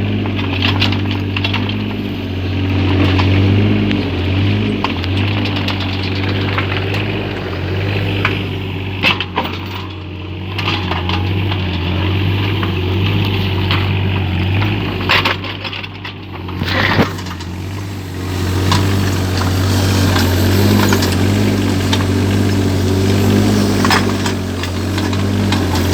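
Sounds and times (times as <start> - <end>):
mini excavator engine running: 0.0 - 25.9
digging knocks and clatters: 0.3 - 25.9.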